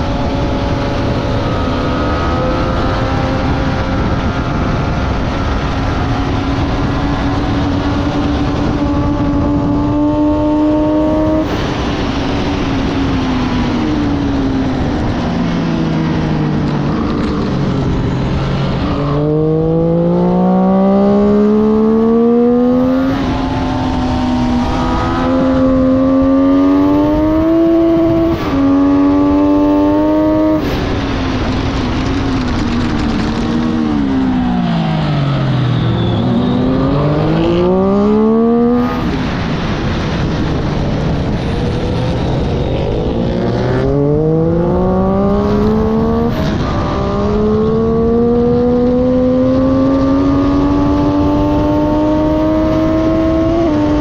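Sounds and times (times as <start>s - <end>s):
motorcycle engine racing: 0.0s - 54.0s
wind rush: 0.0s - 54.0s.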